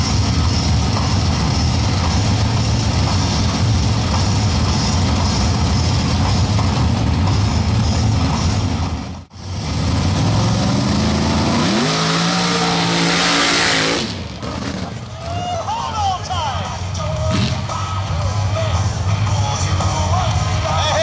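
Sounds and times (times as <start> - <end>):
truck engine: 0.0 - 21.0.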